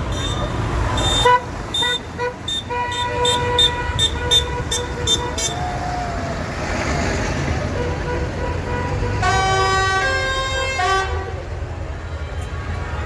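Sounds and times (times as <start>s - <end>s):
vehicle horn beeping: 0.0s - 5.8s, 7.6s - 13.0s
low engine rumble: 0.0s - 13.0s.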